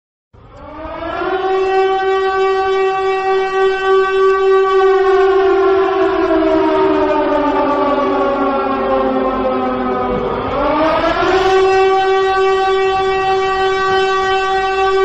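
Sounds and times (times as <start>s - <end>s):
air-raid siren wailing: 0.4s - 15.0s.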